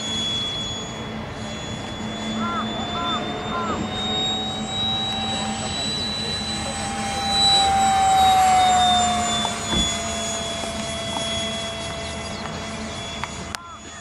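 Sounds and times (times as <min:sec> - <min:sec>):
model jet electric fan whining: 0:00.0 - 0:14.0.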